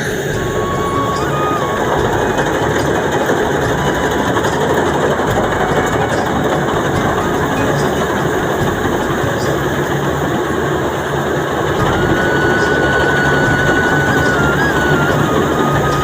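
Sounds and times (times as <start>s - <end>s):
harvester machine running: 0.0s - 16.0s
steady high tone: 0.0s - 16.0s.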